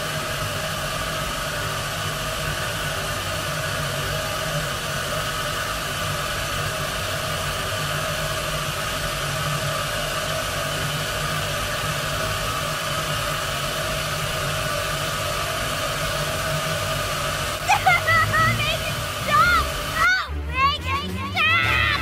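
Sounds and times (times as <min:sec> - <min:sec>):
low hum: 0:00.0 - 0:22.0
noise drone: 0:00.0 - 0:22.0.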